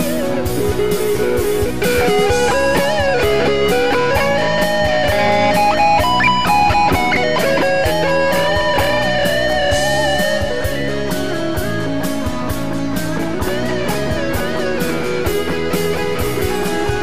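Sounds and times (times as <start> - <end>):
bass guitar: 0.0 - 17.0
drum beat: 0.0 - 17.0
electric guitar lead: 0.0 - 17.0.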